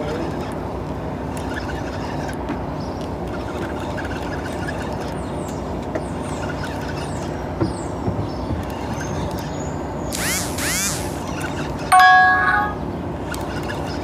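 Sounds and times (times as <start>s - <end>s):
outboard motor running: 0.0s - 11.9s.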